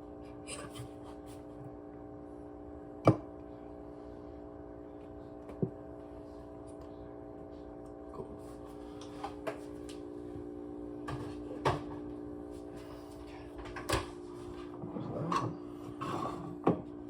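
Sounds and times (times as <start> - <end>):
coffee machine humming: 0.0 - 17.0.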